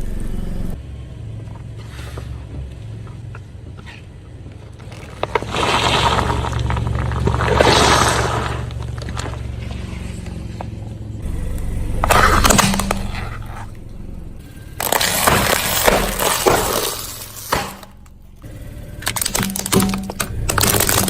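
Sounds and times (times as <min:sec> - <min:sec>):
car engine low hum: 0:00.0 - 0:21.0
car tyre crushing brittle objects: 0:01.1 - 0:21.0.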